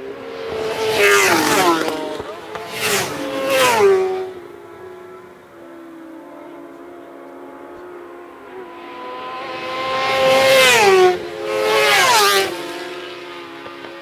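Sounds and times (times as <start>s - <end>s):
racing motorcycles passing by: 0.0s - 14.0s.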